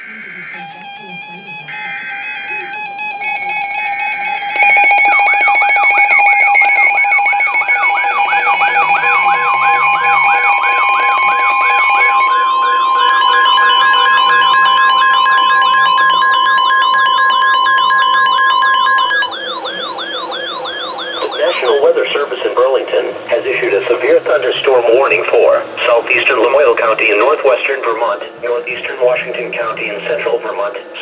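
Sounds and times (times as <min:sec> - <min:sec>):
long steady warning tone: 0:00.0 - 0:31.0
steady alarm tones: 0:00.0 - 0:31.0
warbling siren-like tone: 0:00.0 - 0:31.0.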